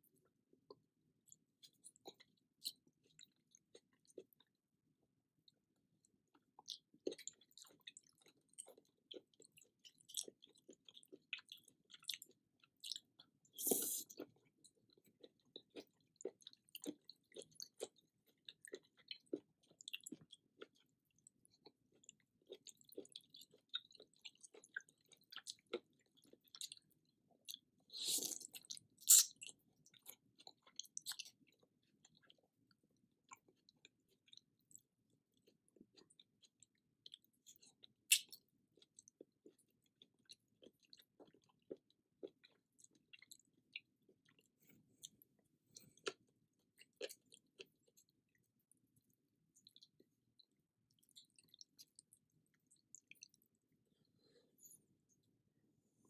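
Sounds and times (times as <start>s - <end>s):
close chewing and wet mouth sounds: 0.0s - 56.0s.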